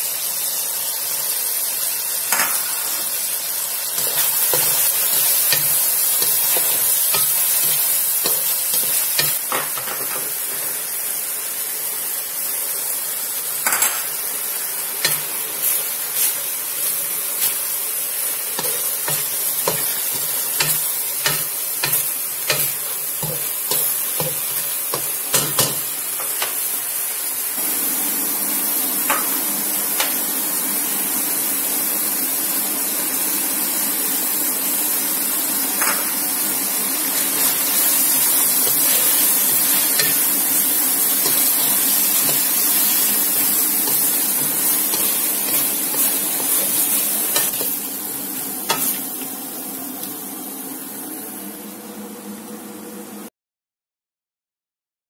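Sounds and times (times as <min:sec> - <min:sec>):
food sizzling in a pan: 0:00.0 - 0:53.1.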